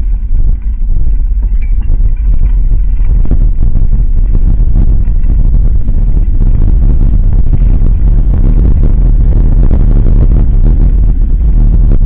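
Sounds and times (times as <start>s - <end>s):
bike tyres rumbling on gravel: 0.0s - 12.0s
wind buffeting microphone: 0.0s - 12.0s.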